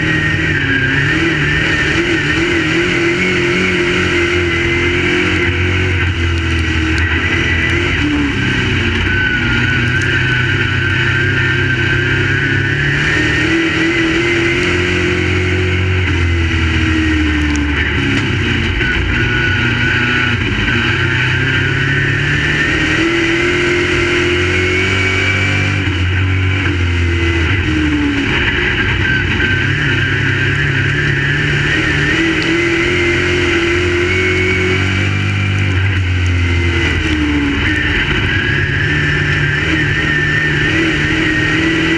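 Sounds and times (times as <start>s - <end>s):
race car engines: 0.0s - 41.9s.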